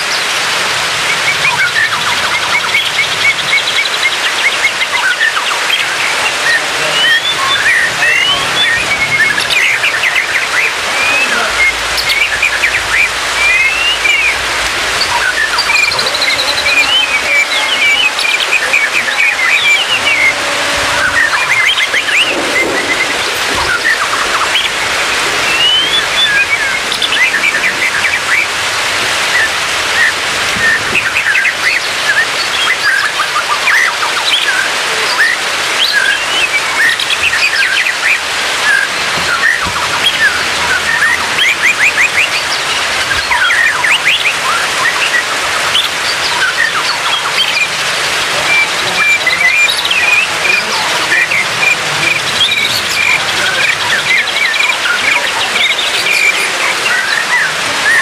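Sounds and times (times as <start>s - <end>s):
steady rain-like hiss: 0.0s - 58.0s
bird singing varied phrases: 1.0s - 58.0s.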